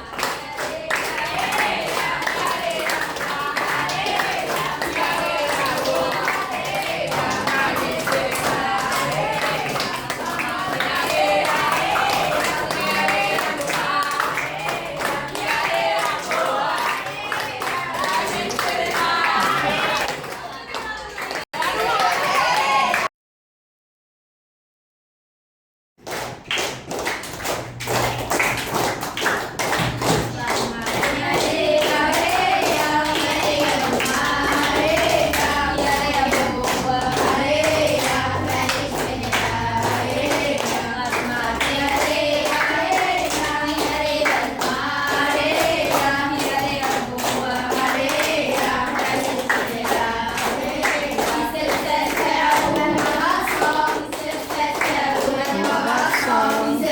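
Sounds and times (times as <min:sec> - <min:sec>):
hands clapping: 0:00.0 - 0:23.1, 0:26.0 - 0:56.9
voices singing together: 0:00.0 - 0:23.1, 0:28.0 - 0:56.9.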